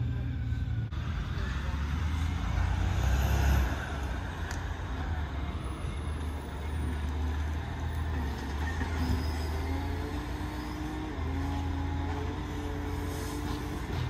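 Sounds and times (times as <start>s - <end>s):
diesel truck engine rumbling: 0.0s - 14.0s
road and street noise: 0.0s - 14.0s.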